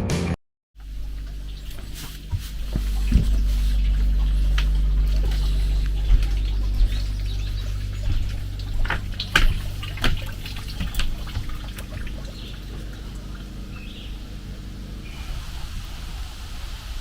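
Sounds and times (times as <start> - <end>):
steady low hum: 0.8 - 17.0
water trickling and dripping: 0.8 - 17.0.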